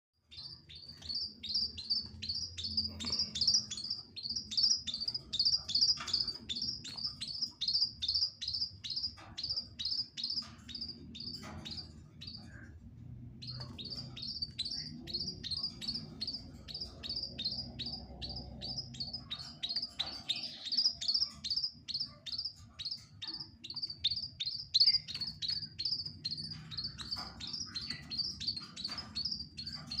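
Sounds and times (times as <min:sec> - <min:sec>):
chicks chirping: 0:00.2 - 0:30.0.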